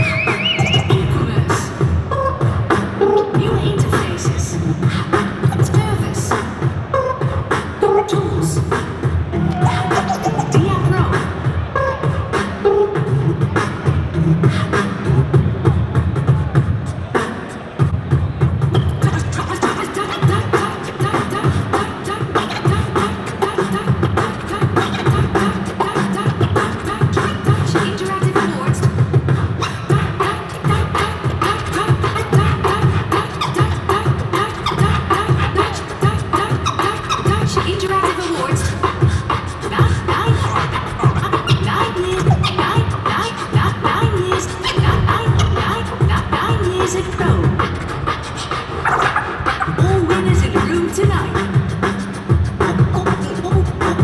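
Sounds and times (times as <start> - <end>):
person beatboxing into microphone: 0.0 - 54.0.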